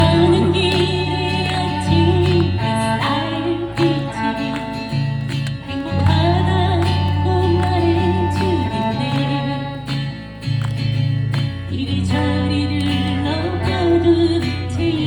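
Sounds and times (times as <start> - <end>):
person singing pop song: 0.0 - 10.3, 11.6 - 15.0
guitar-led band playing: 0.0 - 15.0.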